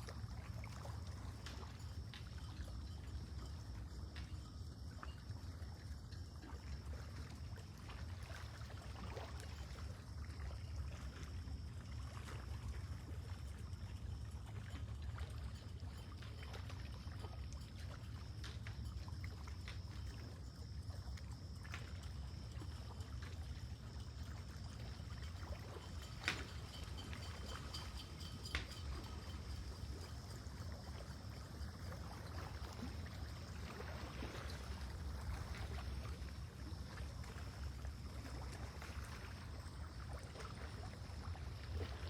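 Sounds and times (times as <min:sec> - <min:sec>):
small splashes: 0:00.0 - 0:42.0
water lapping at shore: 0:00.0 - 0:42.0.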